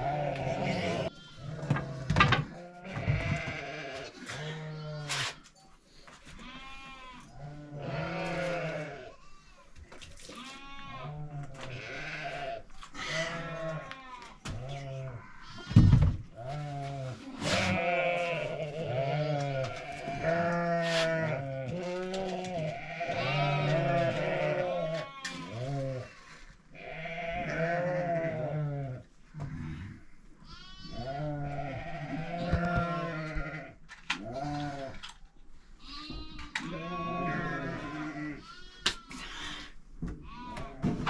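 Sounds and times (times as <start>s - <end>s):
sheep and goats bleating: 0.0s - 5.4s, 6.1s - 35.1s, 35.8s - 41.0s.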